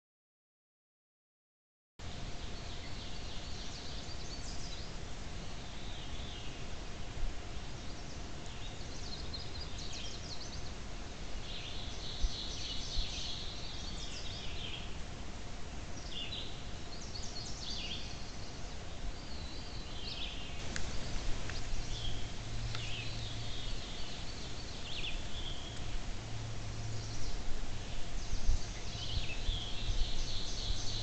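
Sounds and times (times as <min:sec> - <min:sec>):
faint steady hum: 0:02.0 - 0:31.0
microphone hiss: 0:02.0 - 0:31.0
small birds chirping: 0:02.3 - 0:15.2, 0:15.8 - 0:31.0.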